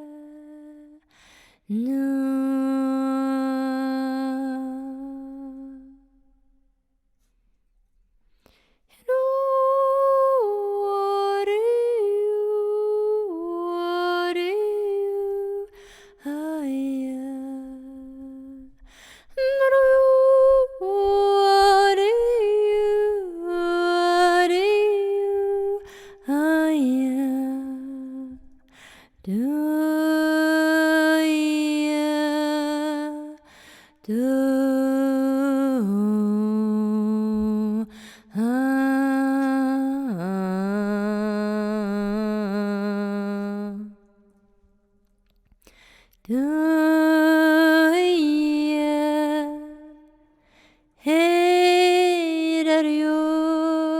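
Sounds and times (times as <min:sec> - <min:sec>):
woman singing wordless long notes: 0:00.0 - 0:01.0, 0:01.7 - 0:06.1, 0:09.0 - 0:28.6, 0:29.2 - 0:44.2, 0:46.3 - 0:50.2, 0:51.0 - 0:53.9.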